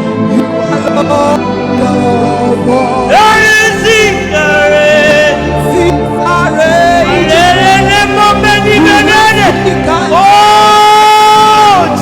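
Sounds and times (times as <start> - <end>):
gospel singing with instruments: 0.0 - 12.0.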